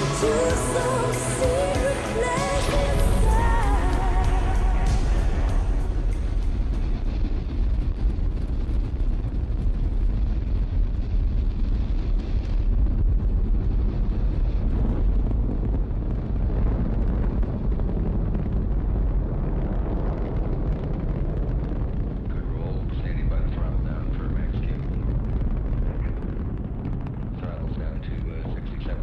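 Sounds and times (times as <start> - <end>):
rocket engine rumble and crackle: 0.0 - 29.0.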